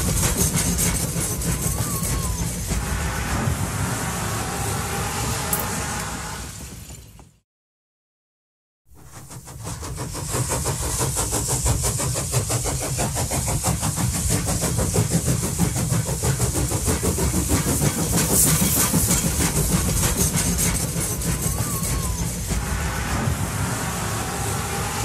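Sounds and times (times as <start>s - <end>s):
train rumbling rhythmically: 0.0s - 7.4s, 8.9s - 25.0s.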